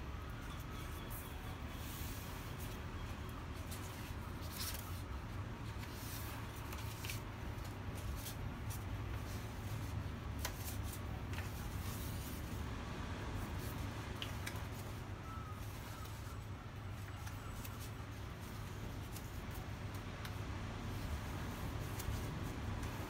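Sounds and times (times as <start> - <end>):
book pages turning: 0.4 - 12.6, 13.4 - 23.0.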